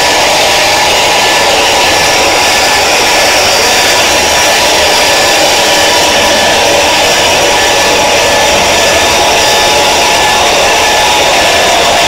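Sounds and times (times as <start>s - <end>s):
distorted alarm noise: 0.0s - 12.0s.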